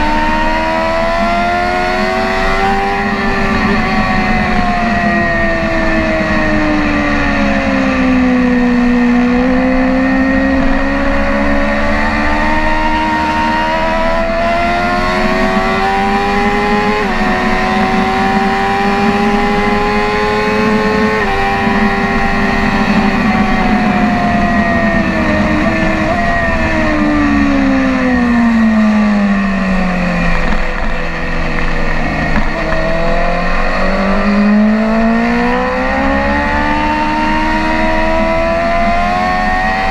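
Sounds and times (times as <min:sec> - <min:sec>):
sport bike engine revving: 0:00.0 - 0:39.9.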